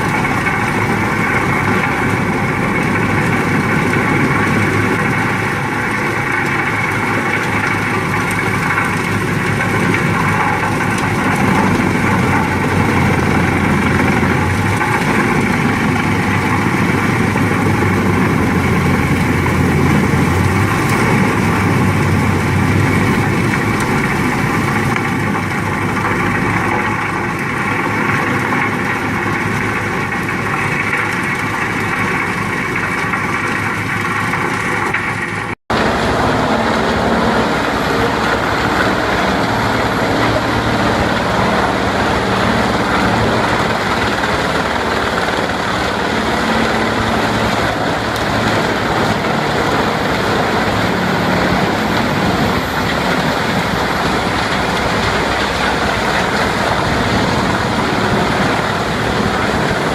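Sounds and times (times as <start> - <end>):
wood chipper running: 0.0 - 59.9.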